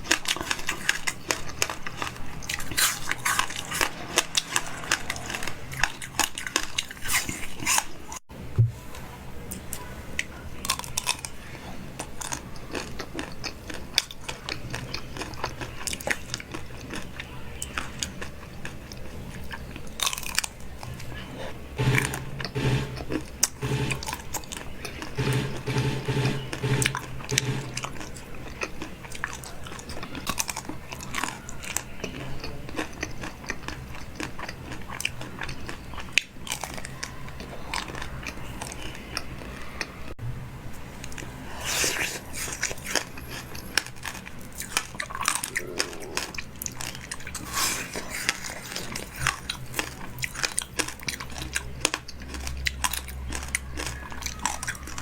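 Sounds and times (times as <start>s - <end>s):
person chewing crunchy food: 0.0s - 8.2s, 10.2s - 40.0s, 41.0s - 55.0s.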